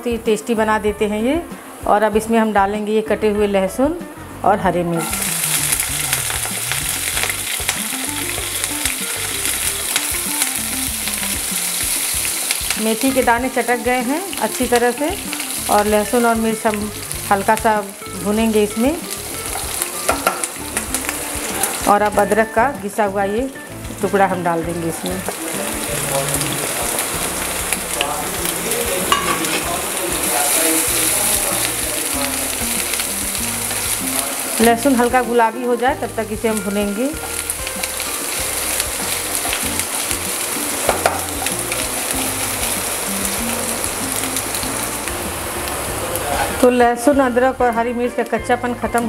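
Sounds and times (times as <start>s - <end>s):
garlic sizzling in oil: 3.7s - 49.0s.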